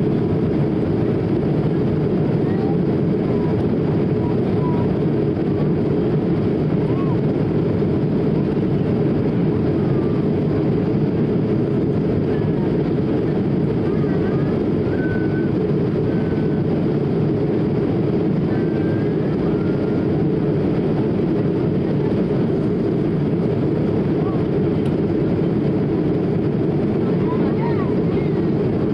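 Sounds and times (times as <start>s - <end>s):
airflow over aircraft fuselage: 0.0s - 28.9s
jet engines humming: 0.0s - 28.9s.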